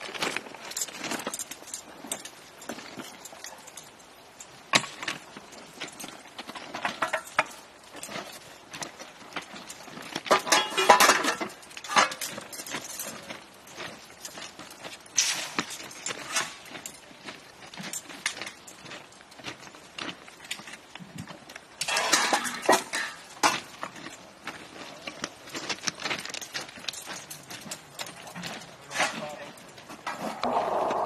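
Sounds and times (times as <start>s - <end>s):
metallic clinks and knocks: 0.0s - 30.6s.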